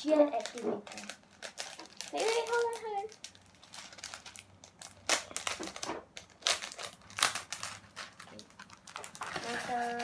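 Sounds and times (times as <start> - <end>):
plastic packets crinkling: 0.0 - 10.0.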